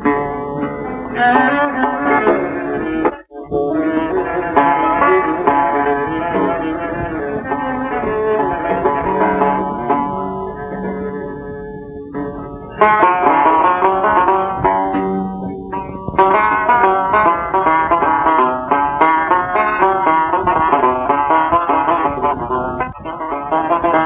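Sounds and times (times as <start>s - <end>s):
plucked strings instrumental music: 0.0s - 24.0s.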